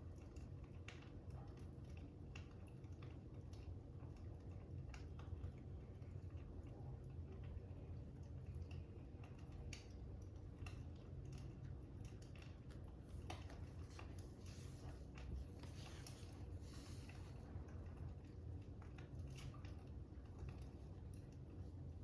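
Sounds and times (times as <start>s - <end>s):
faint fire crackling: 0.0s - 22.0s.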